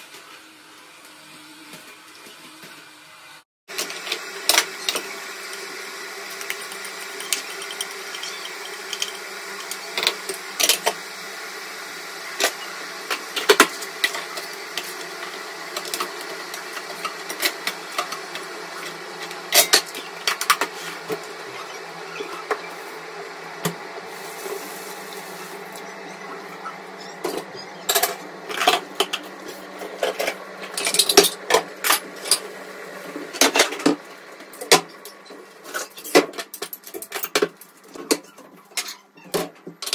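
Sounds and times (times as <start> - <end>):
machine hum: 3.7 - 38.0.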